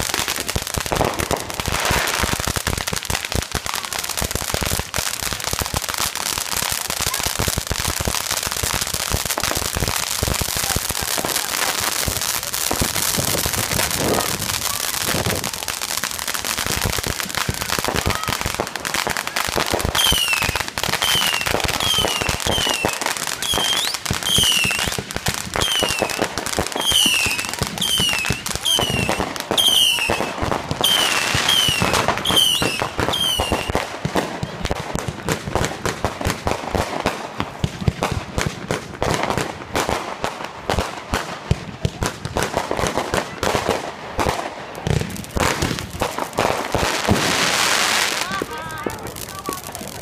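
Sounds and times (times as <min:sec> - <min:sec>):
firecrackers crackling and popping: 0:00.0 - 0:50.0.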